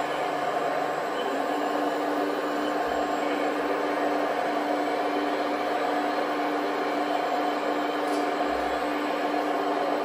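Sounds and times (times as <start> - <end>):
model excavator motor humming: 0.0 - 10.0.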